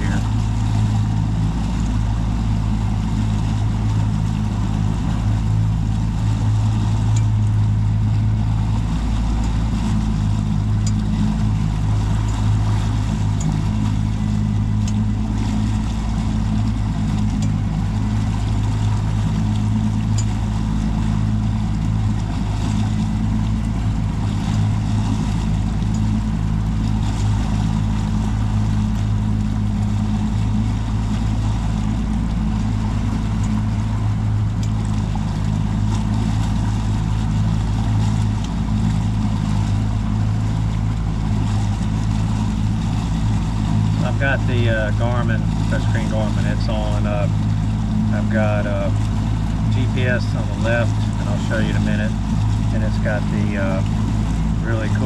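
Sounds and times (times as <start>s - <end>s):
hiss of wind and water: 0.0s - 55.0s
outboard motor droning: 0.0s - 55.0s.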